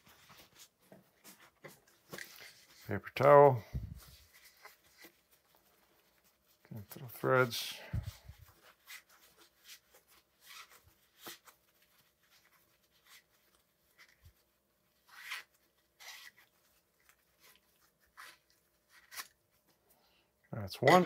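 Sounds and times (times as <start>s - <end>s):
paper towel rubbing: 0.0s - 19.8s.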